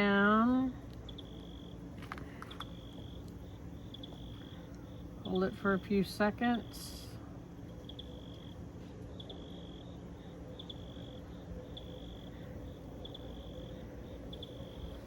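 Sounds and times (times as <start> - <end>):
faint low hum: 0.0 - 15.0
insect trilling: 0.0 - 15.0.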